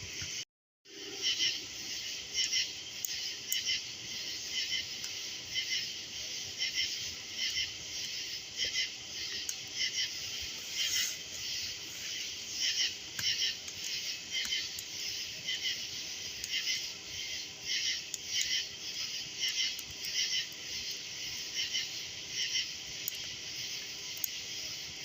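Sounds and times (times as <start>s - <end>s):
campfire pops and crackles: 2.2s - 25.0s.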